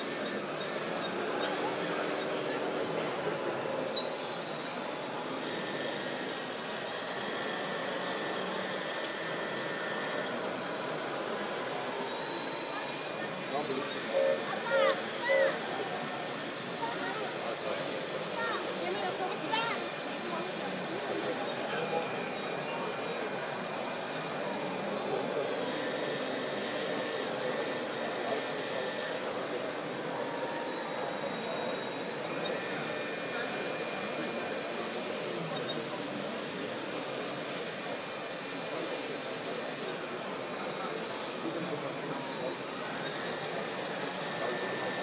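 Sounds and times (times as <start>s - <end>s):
model machines whirring: 0.0s - 45.0s.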